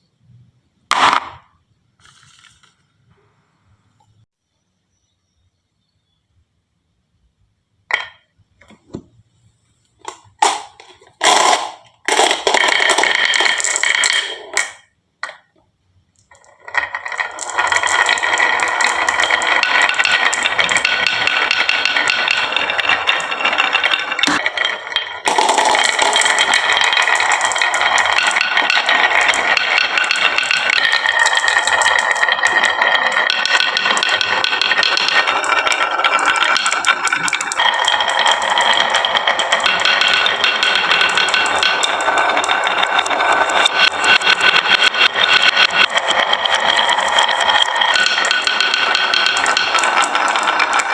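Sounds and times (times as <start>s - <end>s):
marbles rattling down wooden track: 2.0s - 2.8s, 10.0s - 15.6s, 16.2s - 50.9s.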